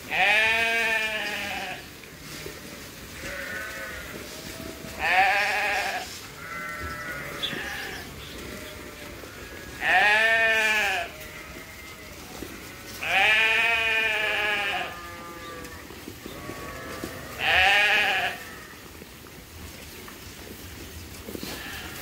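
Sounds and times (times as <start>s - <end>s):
sheep bleating: 0.1s - 1.9s, 3.2s - 18.9s, 21.4s - 22.0s.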